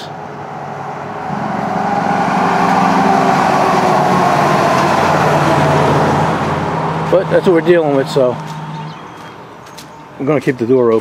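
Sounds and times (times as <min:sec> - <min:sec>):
truck diesel engine: 0:00.0 - 0:09.7.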